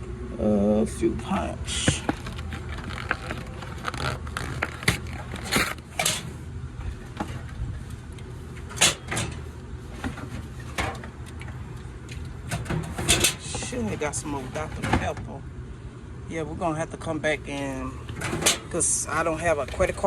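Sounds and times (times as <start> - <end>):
vending machine hum: 0.0 - 20.0.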